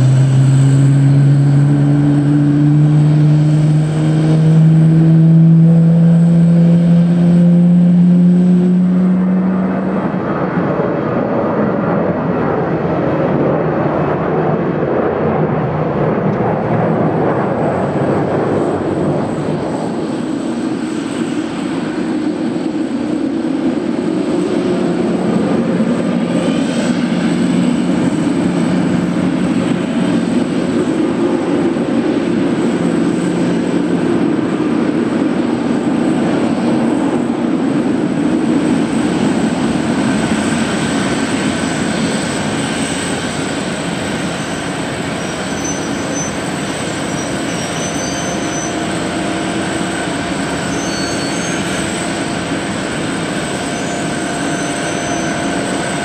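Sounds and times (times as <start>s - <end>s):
jet engine rumble with whine: 0.0s - 56.0s.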